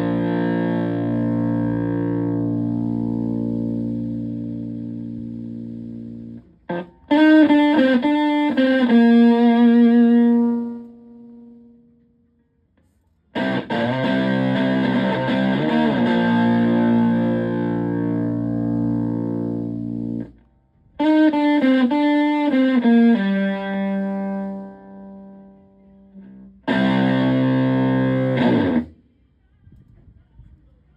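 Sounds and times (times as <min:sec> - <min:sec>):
fuzzed electric guitar: 0:00.0 - 0:11.7, 0:13.3 - 0:29.0.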